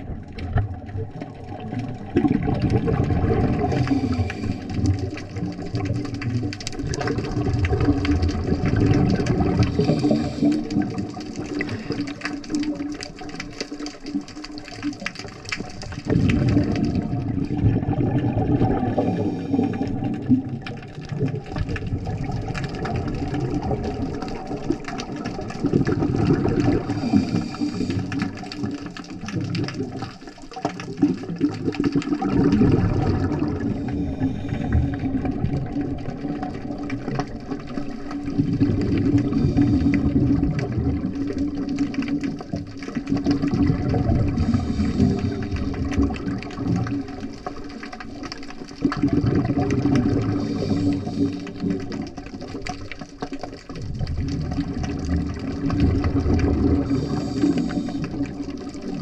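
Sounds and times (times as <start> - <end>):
muffled underwater rushing and bubbling: 0.0 - 59.0.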